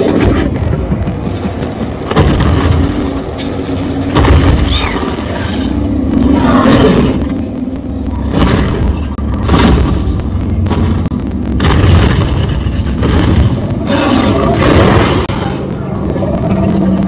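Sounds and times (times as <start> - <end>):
booming hits: 0.0 - 16.2
deep rumble: 0.0 - 17.0.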